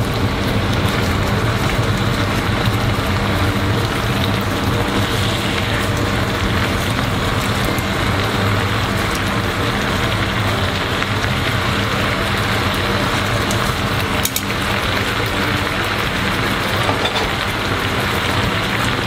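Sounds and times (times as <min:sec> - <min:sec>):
sauce bubbling and sizzling: 0:00.0 - 0:19.0.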